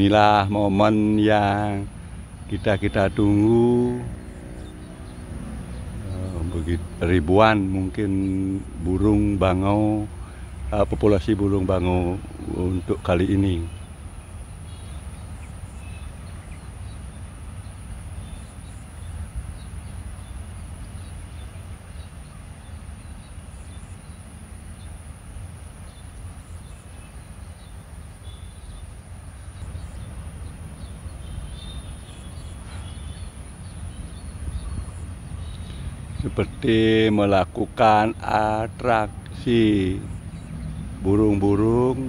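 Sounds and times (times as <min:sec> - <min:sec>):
constant low rumble: 0:00.0 - 0:42.0.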